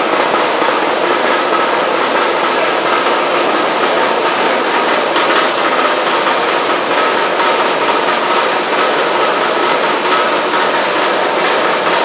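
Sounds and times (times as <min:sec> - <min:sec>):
machine running steadily: 0:00.0 - 0:12.0.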